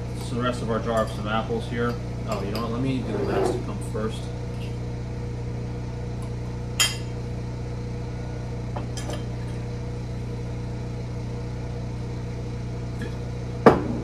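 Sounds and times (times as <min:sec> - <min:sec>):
generator humming: 0:00.0 - 0:14.0.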